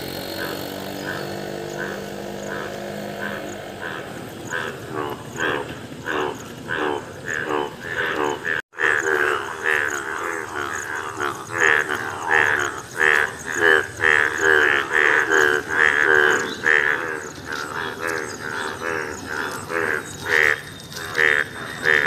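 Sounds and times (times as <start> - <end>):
bullfrogs croaking: 0.0 - 22.0.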